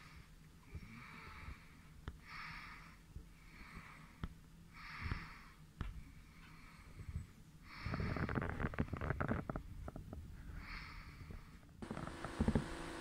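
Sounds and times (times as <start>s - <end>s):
person breathing softly: 0.0s - 11.8s.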